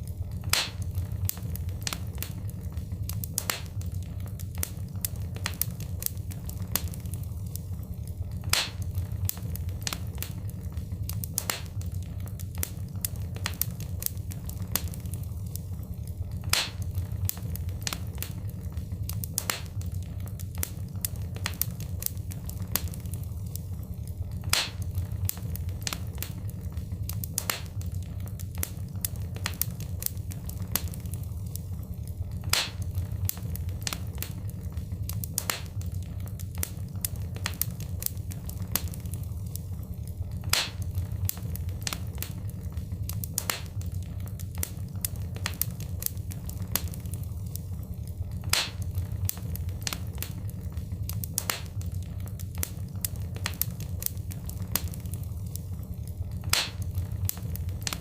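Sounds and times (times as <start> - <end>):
fire popping and snapping: 0.0 - 58.0
low rumble of flames: 0.0 - 58.0.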